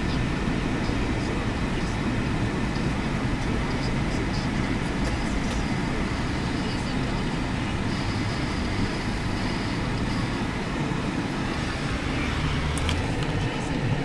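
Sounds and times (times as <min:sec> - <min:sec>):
car road noise from inside: 0:00.0 - 0:14.0.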